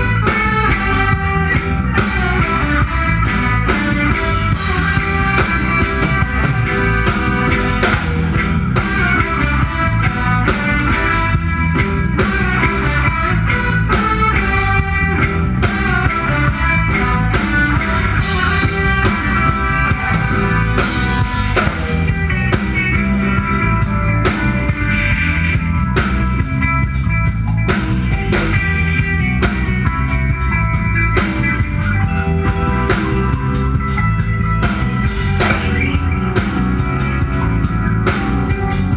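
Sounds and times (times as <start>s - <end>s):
bass groove: 0.0s - 38.9s
drum kit: 0.0s - 38.9s
electric guitar: 0.0s - 38.9s.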